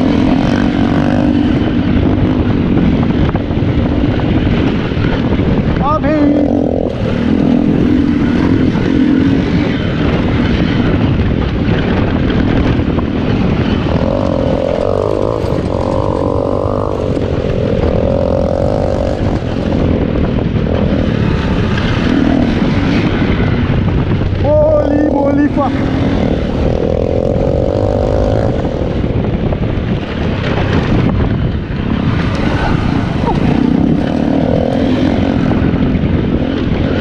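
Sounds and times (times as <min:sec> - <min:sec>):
motorcycle engine revving: 0:00.0 - 0:37.0
wind and ground noise: 0:00.0 - 0:37.0.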